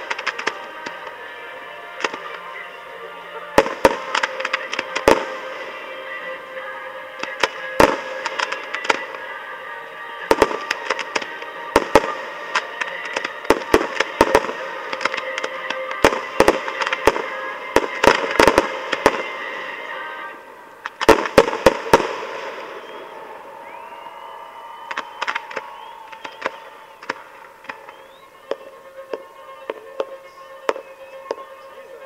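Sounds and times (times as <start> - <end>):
fireworks bangs: 0.0 - 9.4, 10.1 - 31.8.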